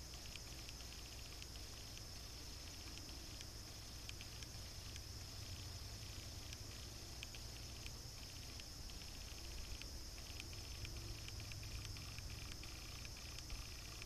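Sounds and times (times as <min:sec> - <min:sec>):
insects buzzing: 0:00.0 - 0:14.0
rapid ticking clicks: 0:00.0 - 0:14.0.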